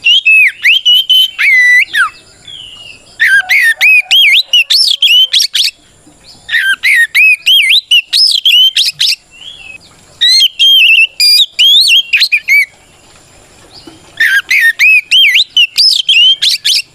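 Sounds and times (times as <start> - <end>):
bird singing whistled notes: 0.0 - 12.9, 13.7 - 16.9.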